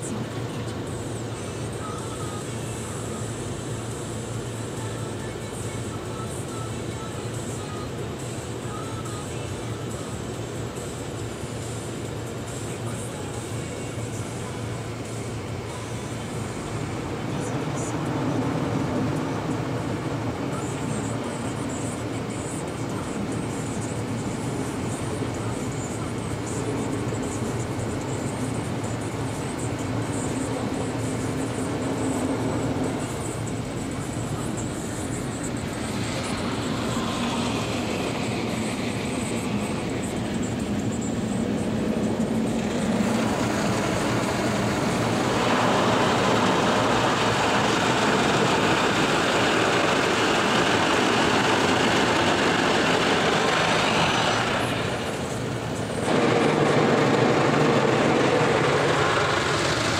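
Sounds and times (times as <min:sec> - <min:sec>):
car wash water spray and machinery: 0:00.0 - 0:59.9.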